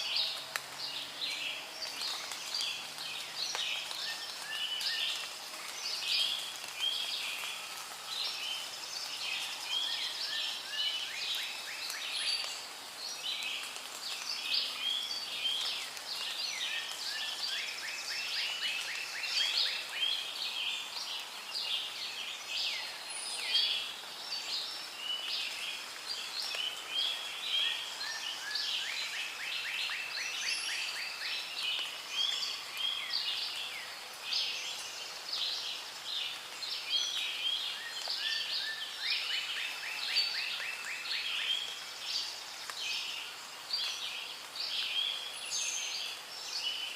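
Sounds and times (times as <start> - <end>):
birds chirping chorus: 0.0 - 46.9.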